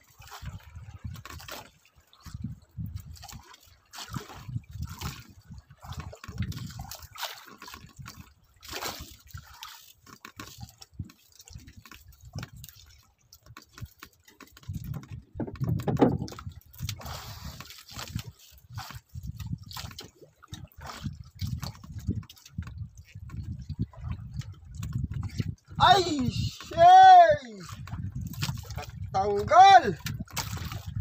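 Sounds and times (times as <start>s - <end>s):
water sloshing and splashing: 0.0s - 31.0s.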